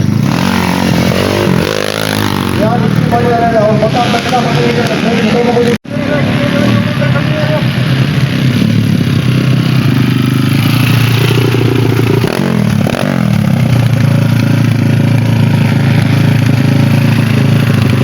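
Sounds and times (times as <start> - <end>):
motorcycle engines running: 0.0 - 18.0.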